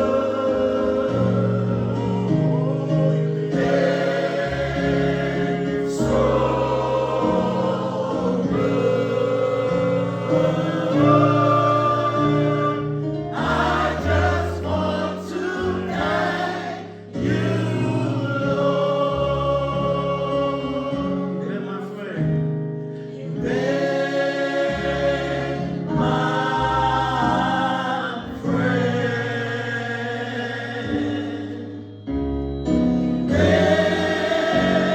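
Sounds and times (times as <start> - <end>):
choir singing gospel: 0.0 - 34.9
keyboard accompaniment: 0.0 - 34.9.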